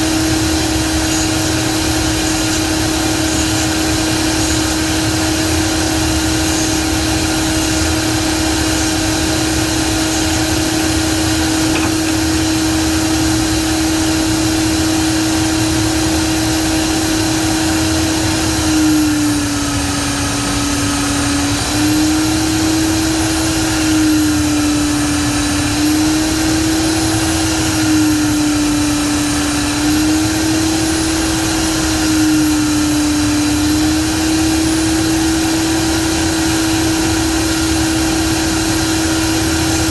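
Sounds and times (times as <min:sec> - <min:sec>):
power tool motor whining: 0:00.0 - 0:39.9.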